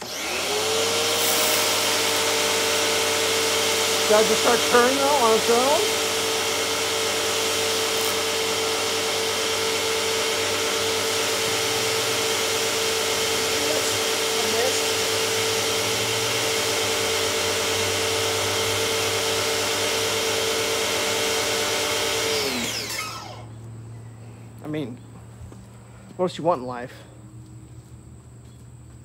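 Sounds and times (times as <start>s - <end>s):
pressure washer motor whine: 0.0s - 23.8s.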